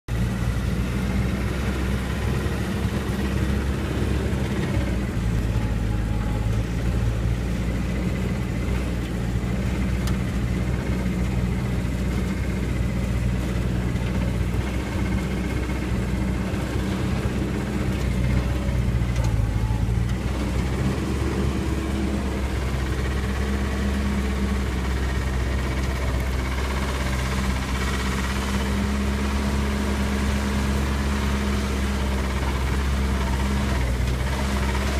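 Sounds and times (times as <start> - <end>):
jeep engine droning: 0.1 - 34.9.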